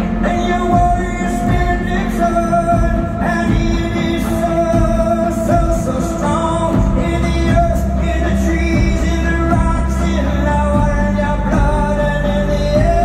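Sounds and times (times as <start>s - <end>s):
acoustic guitar: 0.0s - 13.0s
low bass: 0.0s - 13.0s
person singing: 0.0s - 13.0s.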